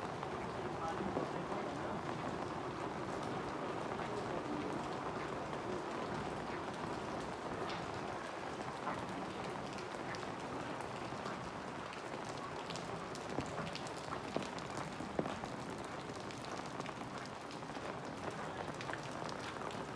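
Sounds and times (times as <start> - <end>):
steady rain falling: 0.0 - 19.9
sharp rain taps: 0.1 - 19.9.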